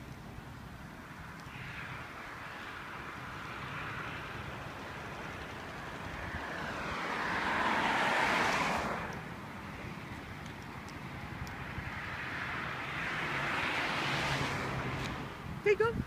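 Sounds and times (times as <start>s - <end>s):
car passing: 0.0s - 15.8s.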